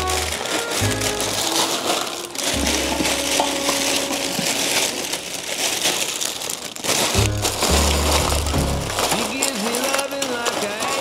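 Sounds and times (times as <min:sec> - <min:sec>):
makeup containers clattering: 0:00.0 - 0:05.4, 0:07.0 - 0:11.0.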